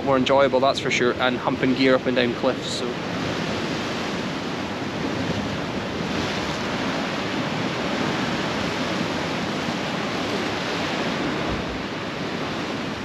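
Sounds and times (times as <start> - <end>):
surf washing against rocks: 0.0 - 13.0.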